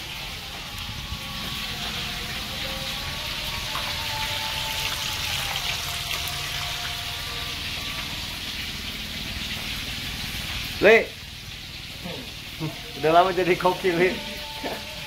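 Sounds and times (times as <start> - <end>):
fish frying in oil: 0.0 - 15.0.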